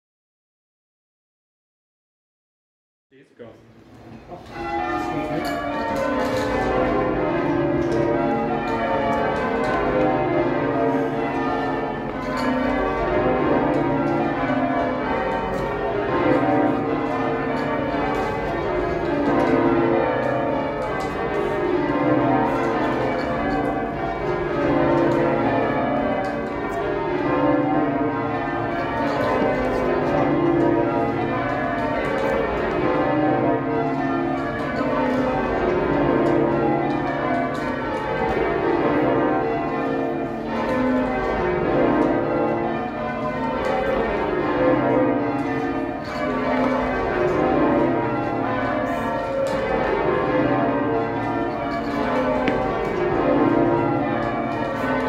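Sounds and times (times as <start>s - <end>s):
church bells change ringing: 4.1s - 55.0s.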